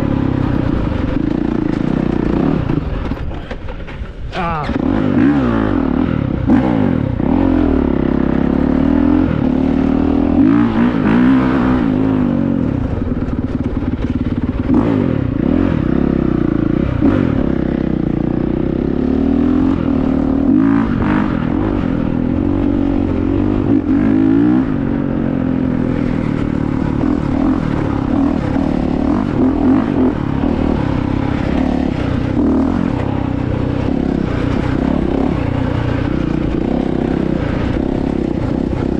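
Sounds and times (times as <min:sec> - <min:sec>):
dirt bike engine revving: 0:00.0 - 0:03.3, 0:04.5 - 0:38.9.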